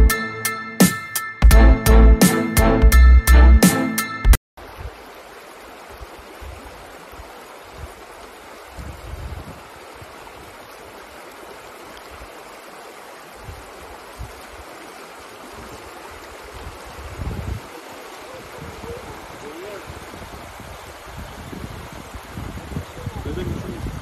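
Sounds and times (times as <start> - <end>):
stream running over rocks: 4.6 - 24.0.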